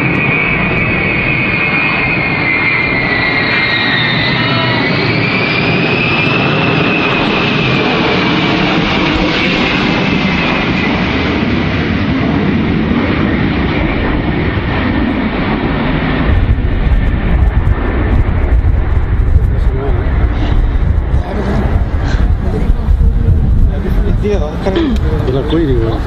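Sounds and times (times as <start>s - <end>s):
jet engines passing overhead: 0.0s - 26.0s
low rumble with crackling: 4.7s - 26.0s.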